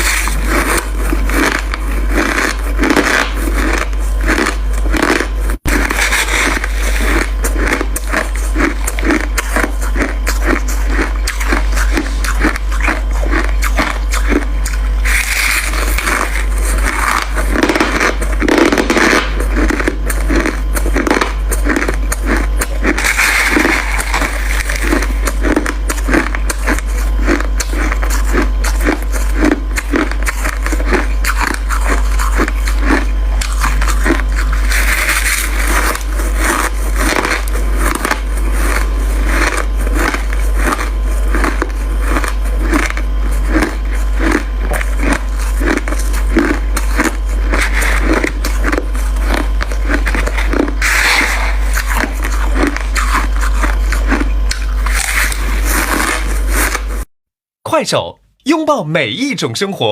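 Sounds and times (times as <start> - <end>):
ice being chewed and crunched: 0.0 - 57.0.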